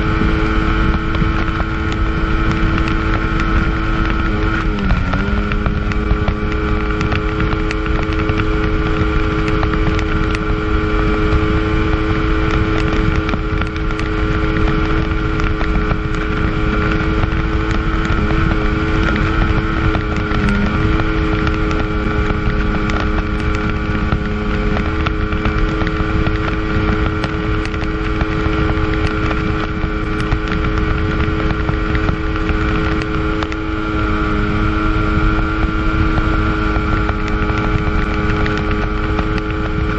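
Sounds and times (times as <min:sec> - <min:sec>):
jet ski engine running: 0:00.0 - 0:39.9
wind rushing over microphone: 0:00.0 - 0:39.9.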